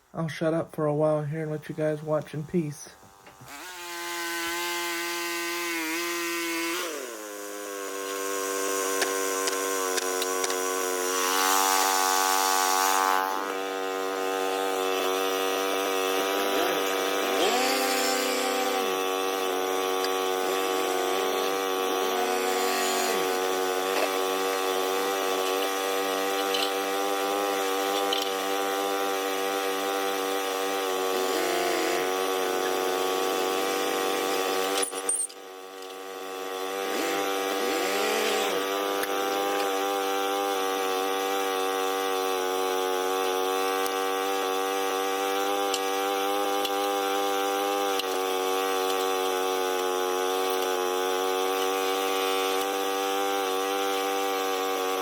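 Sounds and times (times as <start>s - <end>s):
sawmill sawing through log: 0.5s - 55.0s.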